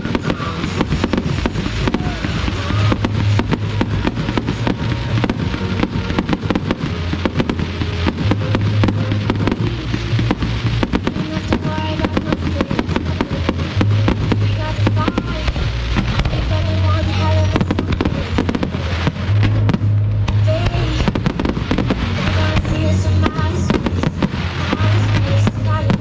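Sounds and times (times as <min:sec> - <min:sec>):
fireworks crackling and popping: 0:00.0 - 0:26.0
music playing: 0:00.0 - 0:26.0.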